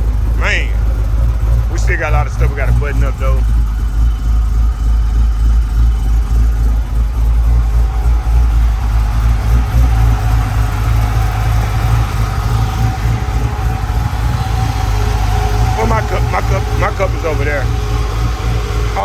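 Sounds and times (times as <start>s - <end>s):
v eight engine idling choppily: 0.0s - 19.0s.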